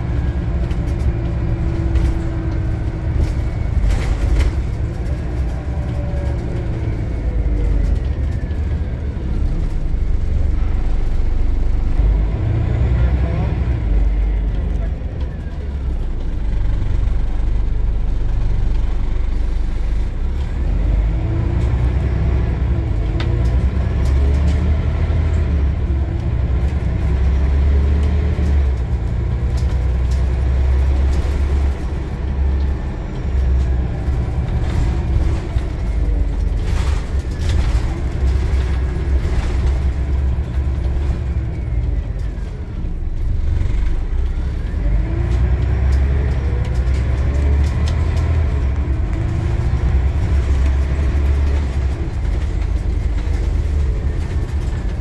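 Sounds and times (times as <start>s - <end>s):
bus engine rumble and whine: 0.0s - 55.0s.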